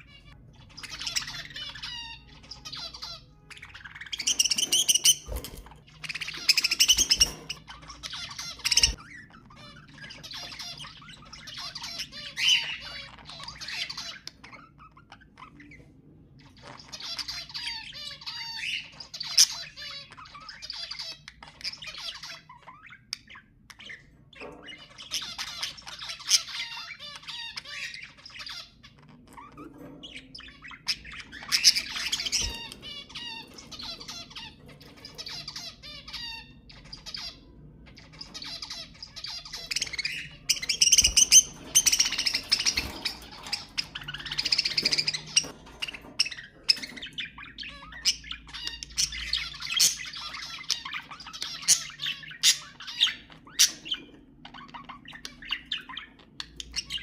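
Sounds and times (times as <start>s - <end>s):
budgerigars warbling and chattering: 0.0s - 57.0s.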